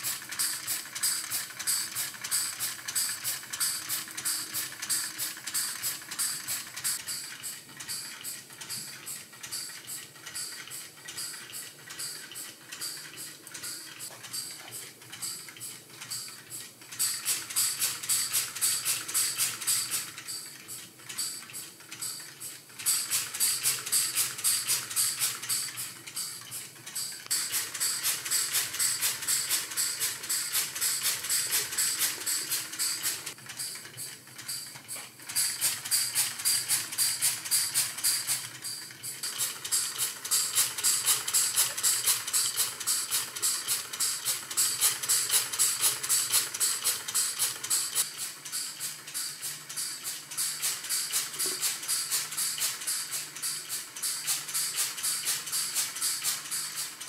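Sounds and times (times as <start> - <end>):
pneumatic engine puffing and clicking: 0.0 - 57.0.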